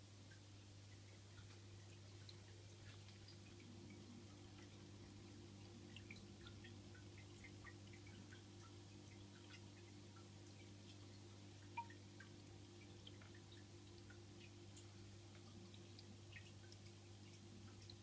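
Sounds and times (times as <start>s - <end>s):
aquarium filter hum: 0.0s - 18.0s
water drips and bubble pops: 1.0s - 17.0s.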